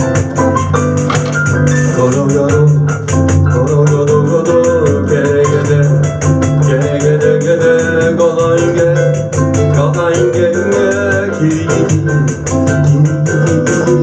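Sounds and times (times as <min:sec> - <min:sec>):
acoustic guitar: 0:00.0 - 0:14.0
bass: 0:00.0 - 0:14.0
piano: 0:00.0 - 0:14.0.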